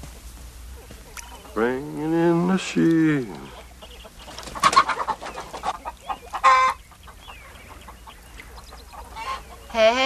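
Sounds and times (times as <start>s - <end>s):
chickens clucking: 0.1s - 10.0s.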